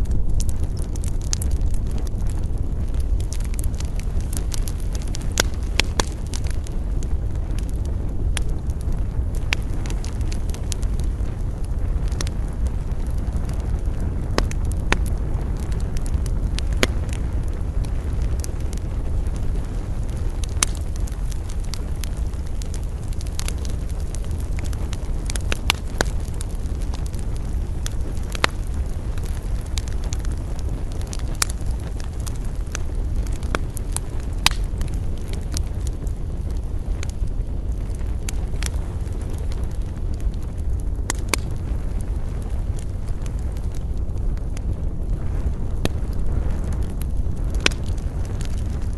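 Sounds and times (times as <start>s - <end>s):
campfire crackling and popping: 0.0s - 48.9s
low wind rumble: 0.0s - 48.9s.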